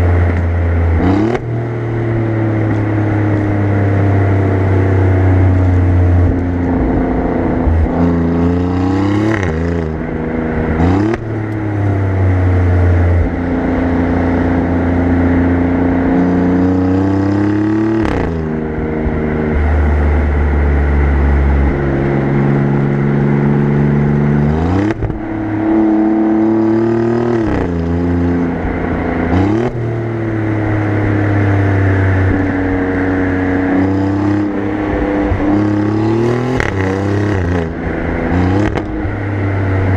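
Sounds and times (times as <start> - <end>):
car exhaust note: 0.0 - 39.9.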